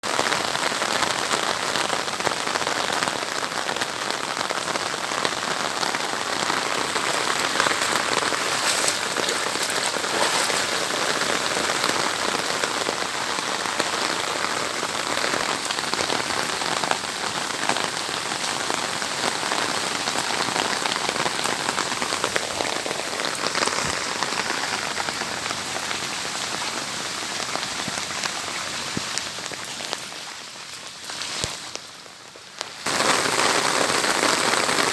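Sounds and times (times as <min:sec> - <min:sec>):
rain falling on a surface: 0:00.0 - 0:34.9.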